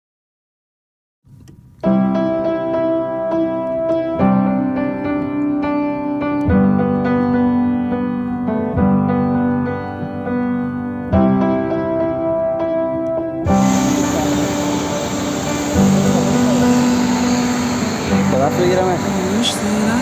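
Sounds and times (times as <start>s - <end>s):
slow piano chords: 1.4s - 20.0s.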